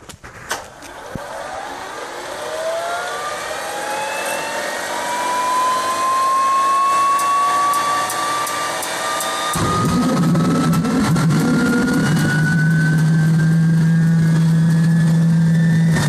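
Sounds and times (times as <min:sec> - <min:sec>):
gas turbine whine rising: 0:00.0 - 0:16.0
turbine rushing noise: 0:00.0 - 0:16.0.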